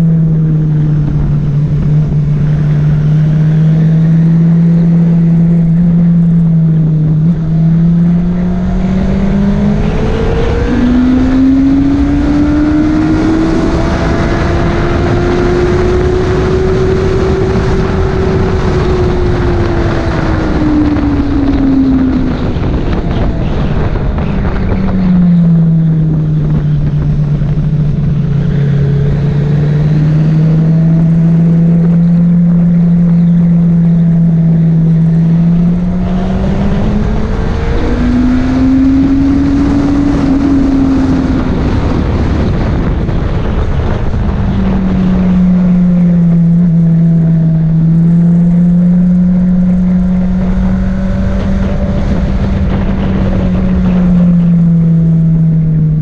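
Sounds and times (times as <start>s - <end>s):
motorcycle engine at speed: 0.0s - 56.0s
wind rush on microphone: 0.0s - 56.0s.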